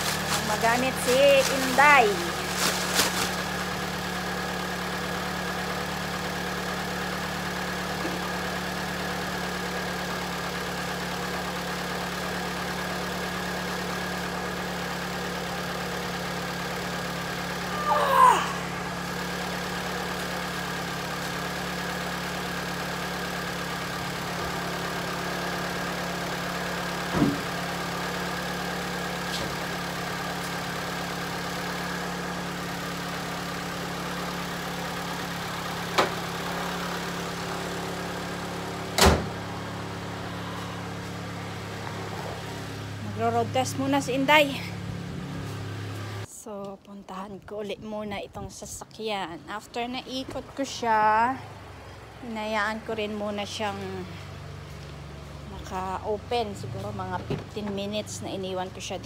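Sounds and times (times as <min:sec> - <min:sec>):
car engine idling: 0:00.0 - 0:46.3, 0:49.2 - 0:59.0.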